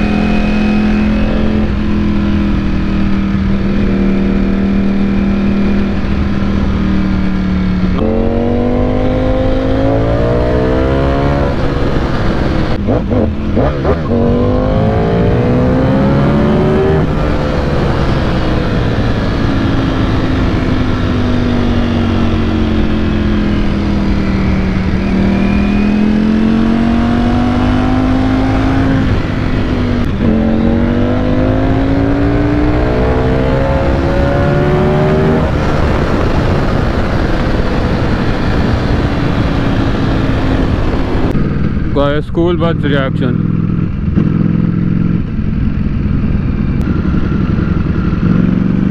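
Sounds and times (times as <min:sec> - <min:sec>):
motorcycle engine pulling hard: 0:00.0 - 0:48.9
wind rush: 0:00.0 - 0:48.9.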